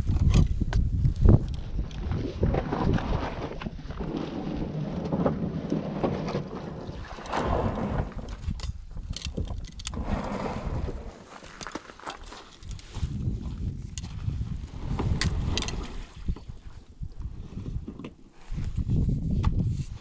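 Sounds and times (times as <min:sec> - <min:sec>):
fishing gear rustling and knocking: 0:00.0 - 0:07.4, 0:08.0 - 0:10.1, 0:11.0 - 0:20.0
wind buffeting microphone: 0:00.0 - 0:11.2, 0:12.6 - 0:20.0.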